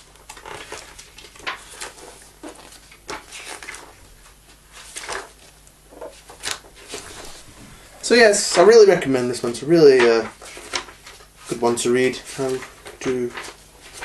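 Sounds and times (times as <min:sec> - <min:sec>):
book pages rustling: 0:00.0 - 0:14.0.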